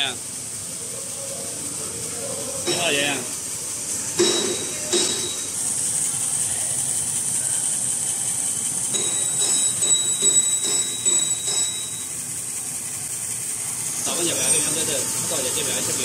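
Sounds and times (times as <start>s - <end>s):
machine mechanical hiss: 0.0s - 16.0s.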